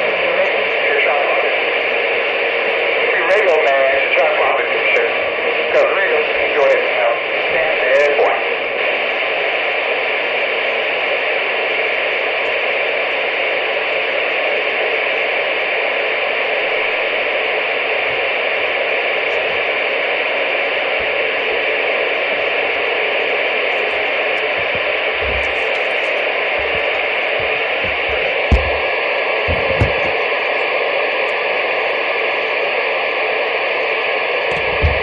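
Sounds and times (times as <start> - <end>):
radio static hiss: 0.0 - 35.0.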